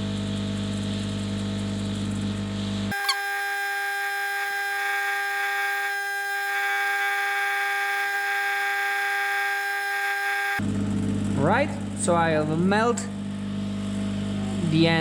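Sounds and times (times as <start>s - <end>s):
hot-air welder blower whine: 0.0s - 15.0s.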